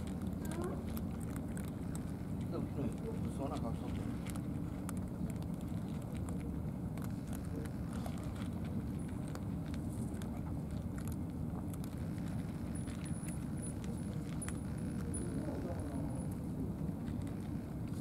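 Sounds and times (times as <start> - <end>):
cats crunching dry kibble: 0.0 - 18.0.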